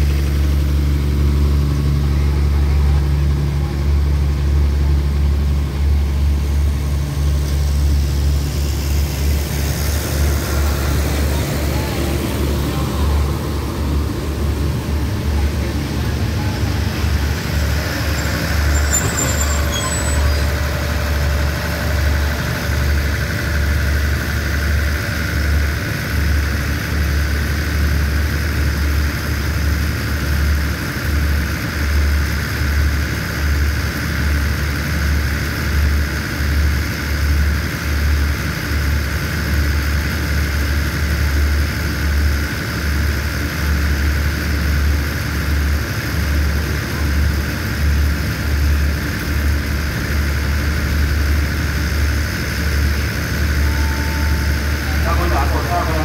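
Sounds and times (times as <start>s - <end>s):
diesel train engine idling: 0.0s - 56.0s.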